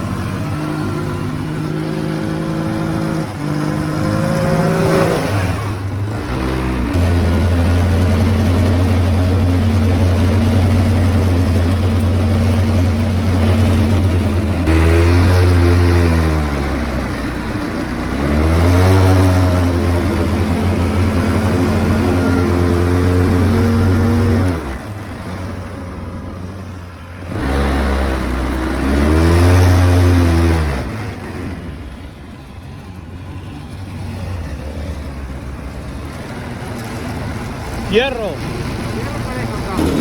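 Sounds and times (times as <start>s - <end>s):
vehicle engine accelerating: 0.0s - 40.0s.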